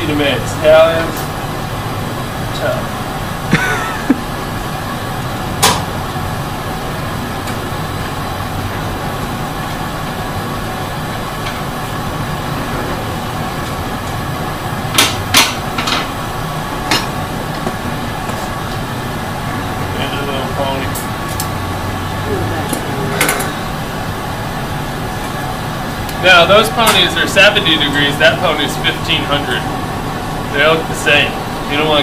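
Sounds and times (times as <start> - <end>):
workshop hum: 0.0 - 32.0.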